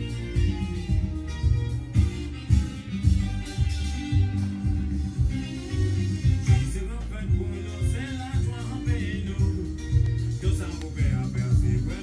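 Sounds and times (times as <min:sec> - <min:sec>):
music from vinyl record: 0:00.0 - 0:12.0.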